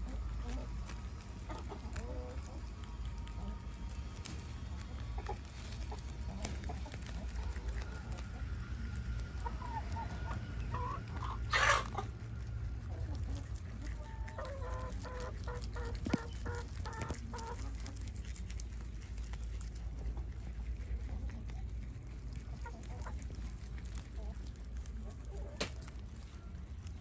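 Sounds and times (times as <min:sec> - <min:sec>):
hen clucking: 0:00.0 - 0:27.0
rabbits chewing greens: 0:00.0 - 0:27.0.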